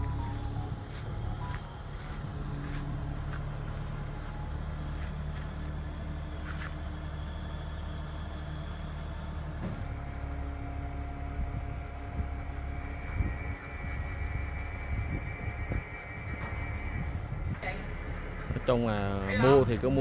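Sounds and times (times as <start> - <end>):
crane engine running: 0.0 - 20.0.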